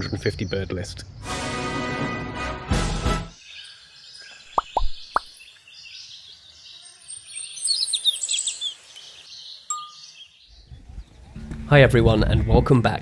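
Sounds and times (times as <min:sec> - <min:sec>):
songbirds chirping and trilling: 0:00.0 - 0:01.4, 0:03.1 - 0:13.0.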